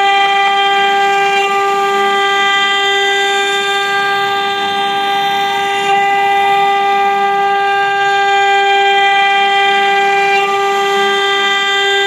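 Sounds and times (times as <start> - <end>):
router spindle whining: 0.0 - 12.0.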